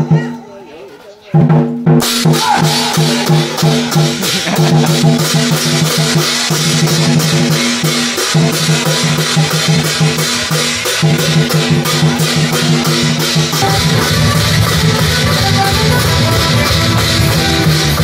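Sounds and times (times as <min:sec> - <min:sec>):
drum kit fast beat: 0:01.5 - 0:18.0.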